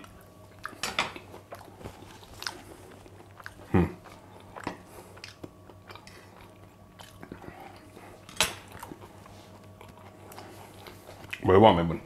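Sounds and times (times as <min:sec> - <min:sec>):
person chewing: 0:00.0 - 0:11.4.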